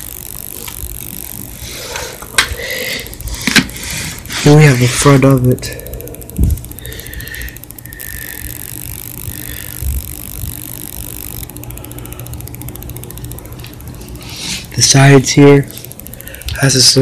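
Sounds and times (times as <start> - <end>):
fine rapid ticking: 0.0 - 17.0
steady low amp hum: 0.0 - 17.0.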